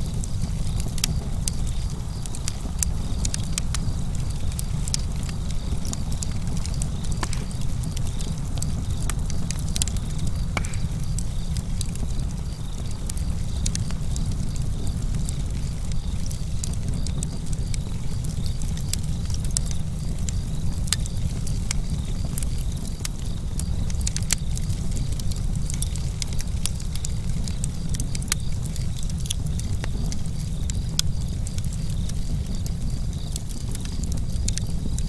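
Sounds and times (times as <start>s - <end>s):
campfire crackling and popping: 0.0s - 35.0s
crickets chirping: 0.0s - 35.0s
low rumble of flames: 0.0s - 35.0s.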